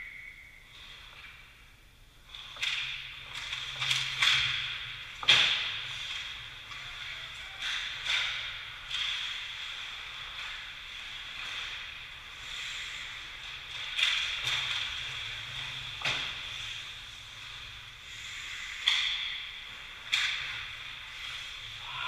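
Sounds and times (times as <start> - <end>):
hockey sticks and puck clacking: 2.2 - 22.0.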